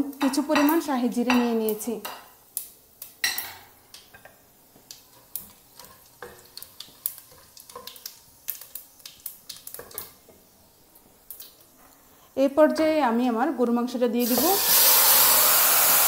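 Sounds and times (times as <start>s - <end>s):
light oil sizzle: 0.0s - 16.0s.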